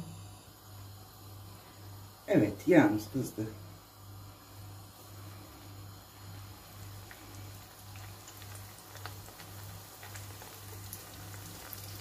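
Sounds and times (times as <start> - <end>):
low steady hum: 0.0 - 12.0
dough sizzling in hot oil: 0.4 - 12.0.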